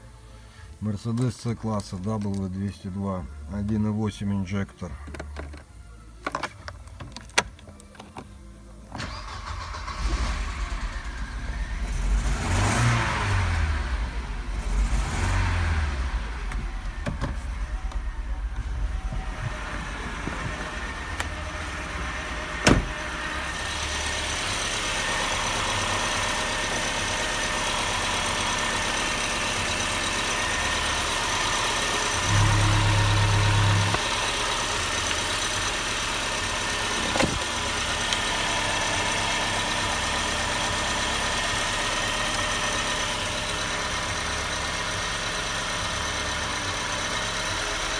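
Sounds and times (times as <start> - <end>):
car engine starting and revving: 8.9 - 47.9.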